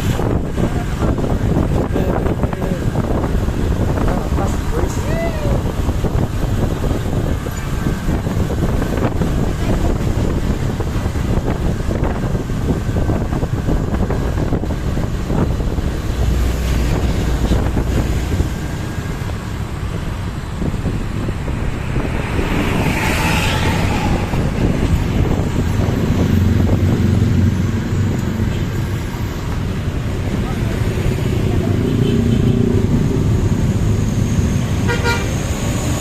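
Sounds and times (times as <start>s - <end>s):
engine hum: 0.0s - 36.0s
road traffic passing: 0.0s - 36.0s
wind buffeting microphone: 0.0s - 36.0s.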